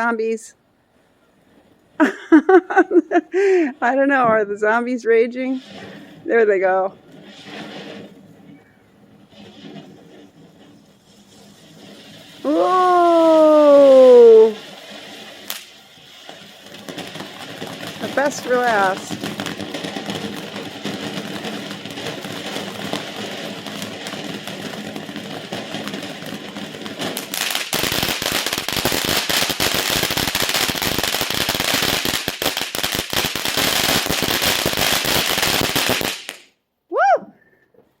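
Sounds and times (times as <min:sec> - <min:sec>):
firework crackling pops and bangs: 0:01.2 - 0:36.6
firework hissing: 0:01.5 - 0:36.6.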